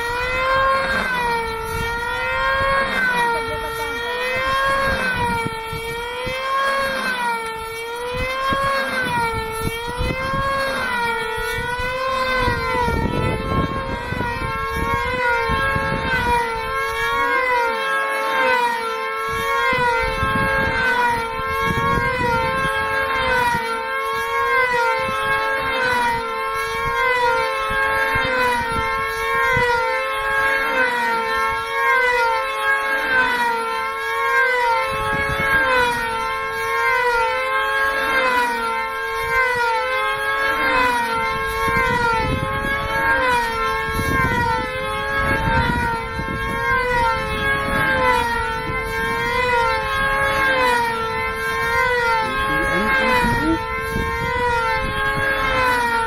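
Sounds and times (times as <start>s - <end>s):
model aircraft engines whining: 0.0s - 56.0s.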